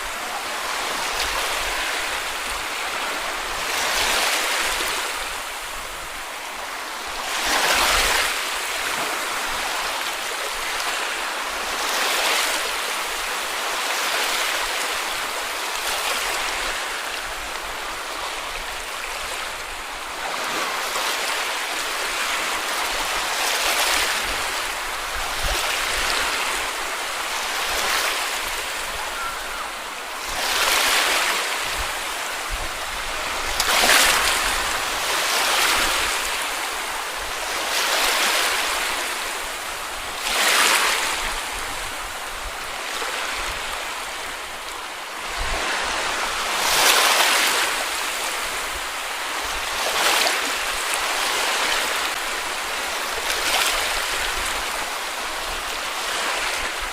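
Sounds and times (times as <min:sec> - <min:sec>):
sea waves breaking on beach: 0:00.0 - 0:56.9.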